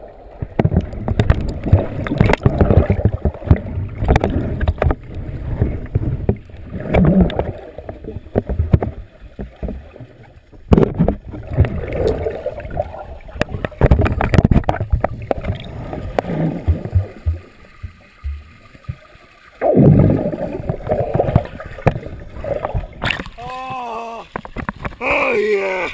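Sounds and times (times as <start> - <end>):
underwater churning and bubbling: 0.0 - 25.9.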